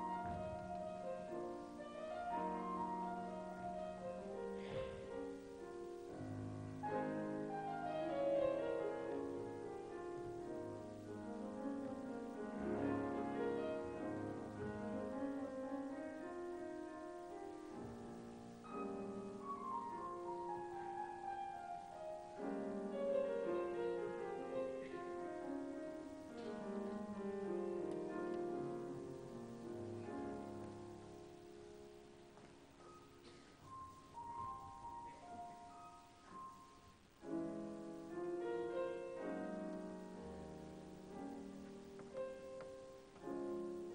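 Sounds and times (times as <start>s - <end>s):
classical piano music: 0.0s - 43.9s.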